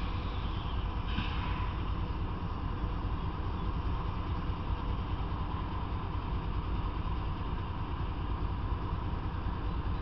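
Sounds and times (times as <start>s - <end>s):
diesel locomotive idling: 0.0s - 10.0s.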